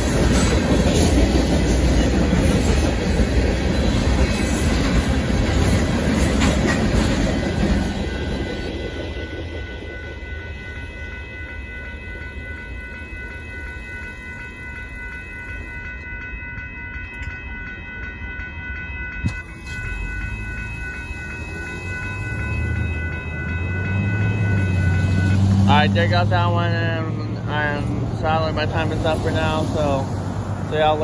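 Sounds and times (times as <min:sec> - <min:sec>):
crossing warning bell ringing: 0:00.0 - 0:31.0
freight train rumbling past: 0:00.0 - 0:31.0.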